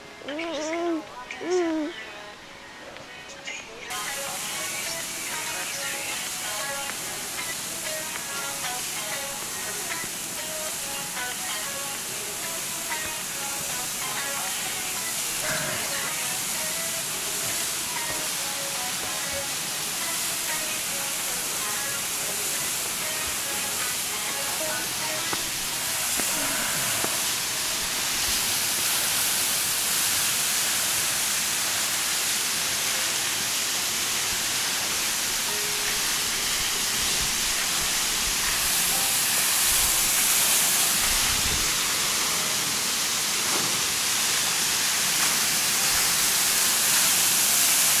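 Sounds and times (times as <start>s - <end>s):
waterfall rushing: 3.8s - 48.0s.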